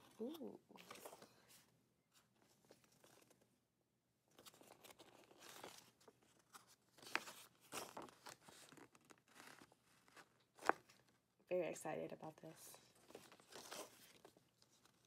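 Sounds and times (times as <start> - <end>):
paper crinkling and rustling: 0.1 - 3.5, 4.3 - 11.3, 12.9 - 15.0.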